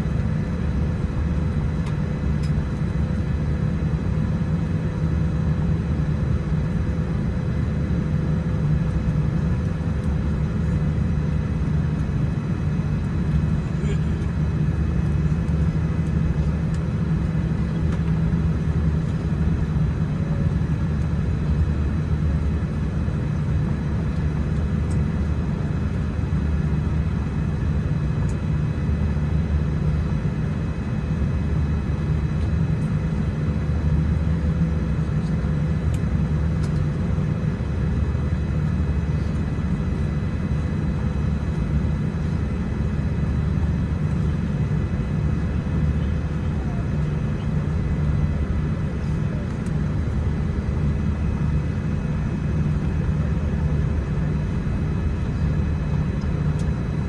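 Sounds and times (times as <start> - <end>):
low rumble of aircraft engines: 0.0 - 57.0.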